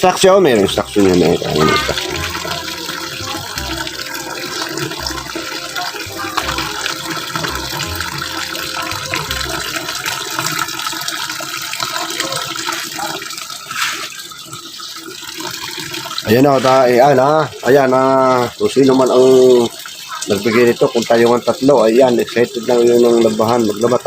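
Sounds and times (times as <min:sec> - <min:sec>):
water pouring into washing machine: 0:00.0 - 0:24.0.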